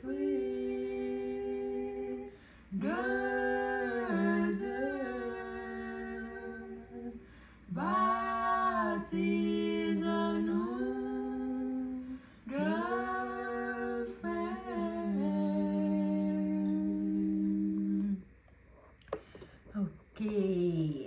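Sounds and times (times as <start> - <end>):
person humming a slow melody: 0.0 - 18.3.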